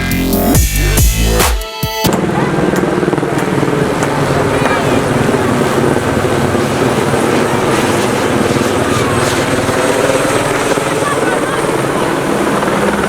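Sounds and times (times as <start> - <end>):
helicopter rotor chopping: 0.5 - 13.0.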